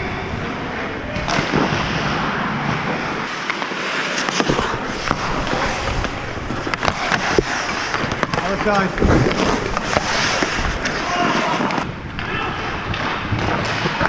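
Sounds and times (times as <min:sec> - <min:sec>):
hockey sticks and puck clacking: 0:01.2 - 0:14.0
skates scraping on ice: 0:01.3 - 0:14.0.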